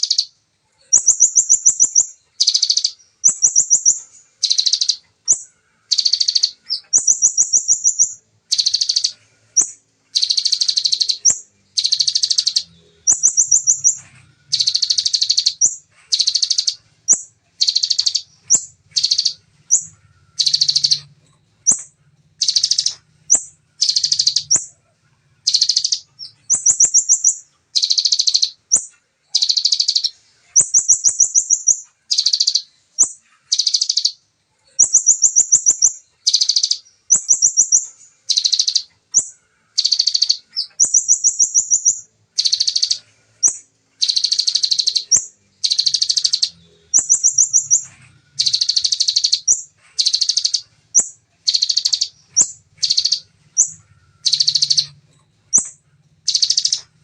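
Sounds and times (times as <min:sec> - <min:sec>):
songbird trilling: 0:00.0 - 0:24.8, 0:25.4 - 0:57.0.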